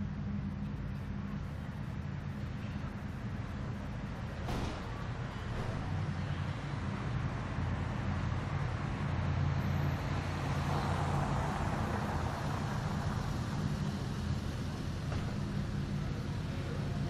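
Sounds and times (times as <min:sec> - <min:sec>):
car engines humming: 0:00.0 - 0:17.0
vehicle passing by: 0:01.4 - 0:17.0.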